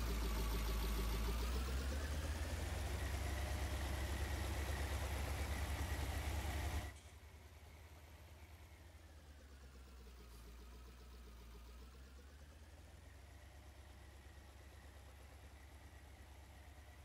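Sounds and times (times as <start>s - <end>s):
combine harvester engine idling: 0.0s - 17.0s.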